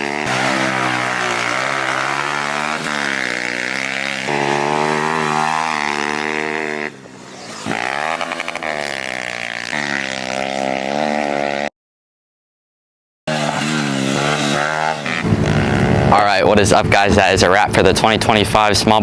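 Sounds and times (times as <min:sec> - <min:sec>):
pit bike engine revving: 0:00.0 - 0:11.7, 0:13.3 - 0:16.8.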